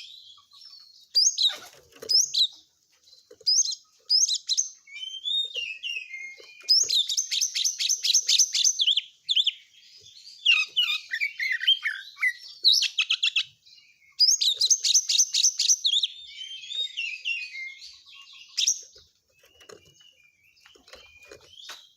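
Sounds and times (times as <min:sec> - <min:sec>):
magpie-robin singing: 0:00.0 - 0:02.6, 0:03.4 - 0:21.9.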